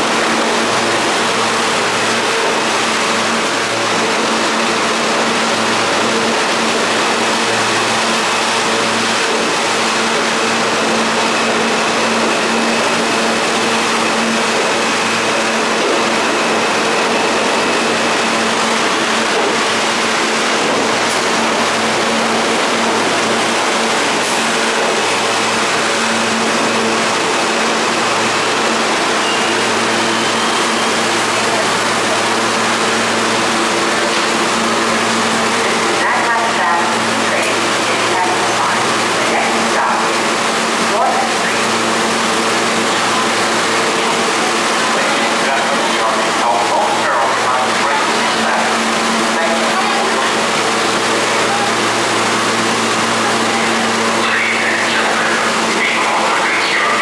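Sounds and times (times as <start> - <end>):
steady hum: 0.0 - 57.0
subway train rumbling to a stop: 0.0 - 57.0.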